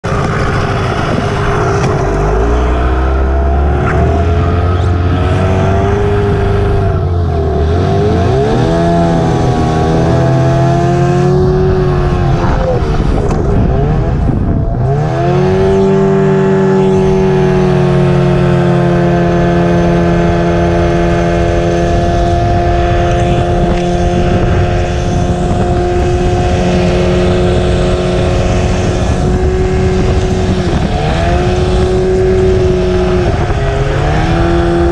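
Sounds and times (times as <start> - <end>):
racing boat engine at high revs: 0.0 - 34.9.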